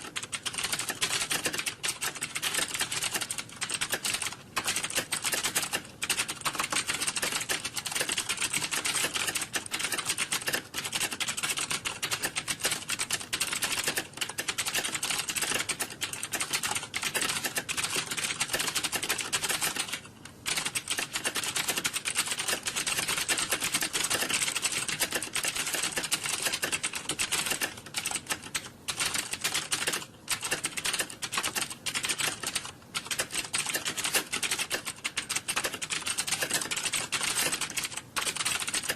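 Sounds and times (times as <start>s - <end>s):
typing on keyboard: 0.0s - 38.9s.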